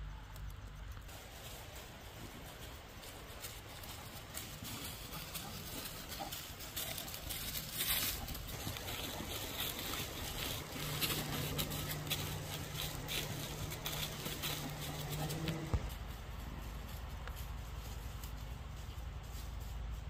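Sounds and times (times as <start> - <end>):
low steady hum: 0.0 - 20.0
paws rustling through dry leaves: 1.1 - 20.0.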